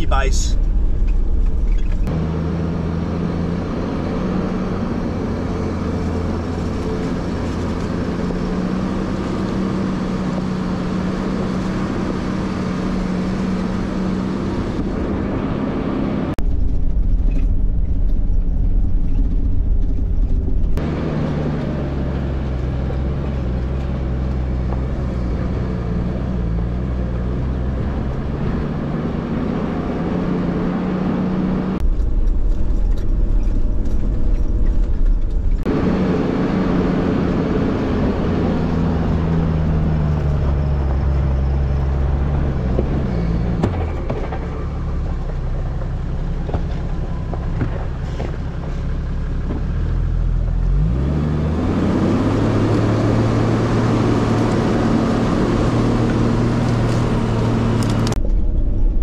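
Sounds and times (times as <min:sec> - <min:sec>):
deep rumble: 0:00.0 - 0:59.0
vehicle engine under load: 0:00.0 - 0:59.0.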